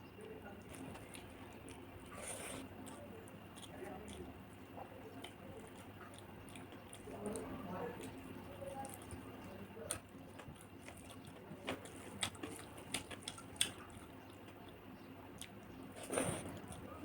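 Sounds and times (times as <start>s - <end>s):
wet eating sounds: 0.1s - 17.0s.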